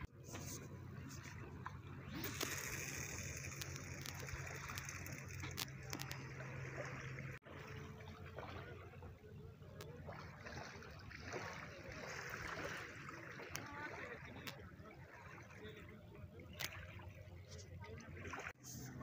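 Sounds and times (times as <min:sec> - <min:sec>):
small splashes: 0:00.5 - 0:19.0
small waves lapping against rocks: 0:01.0 - 0:19.0.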